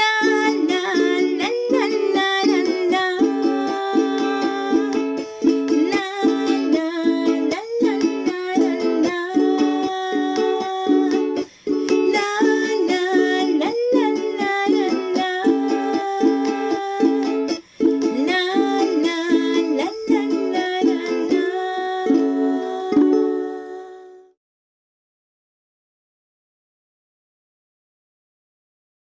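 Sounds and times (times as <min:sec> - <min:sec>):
children's song with strummed ukulele: 0:00.0 - 0:24.4.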